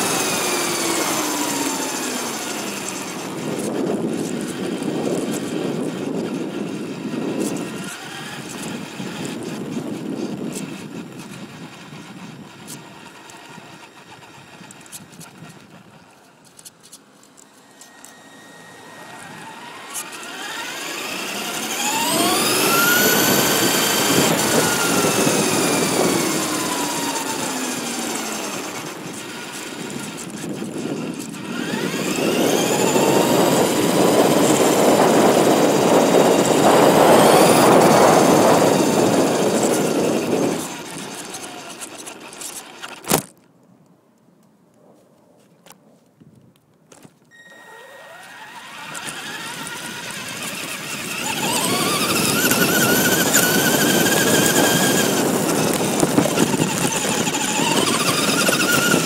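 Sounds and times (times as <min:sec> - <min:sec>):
tyres rumbling on pavement: 0:00.0 - 0:17.4, 0:18.8 - 0:43.4, 0:48.4 - 0:59.0
electric motor whine: 0:00.0 - 0:43.3, 0:46.9 - 0:59.0.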